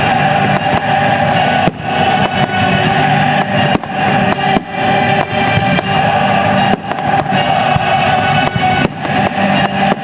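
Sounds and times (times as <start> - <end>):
fireworks bursting with sharp bangs: 0.0 - 10.0
loud music: 0.0 - 10.0.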